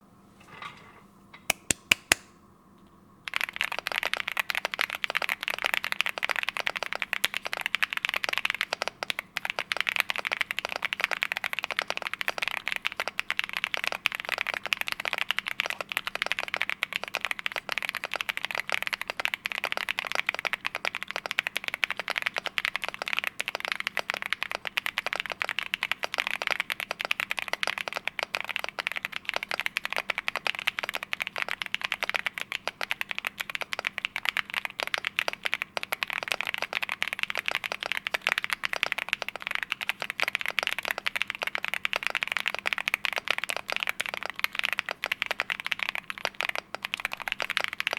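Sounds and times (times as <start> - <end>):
typing on mechanical keyboard: 3.3 - 47.9.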